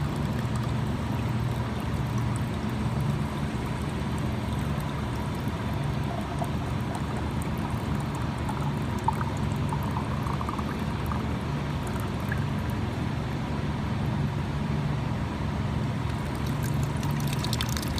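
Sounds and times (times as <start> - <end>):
water pouring: 0.0 - 12.8, 16.1 - 17.9
machine humming low: 0.0 - 17.9.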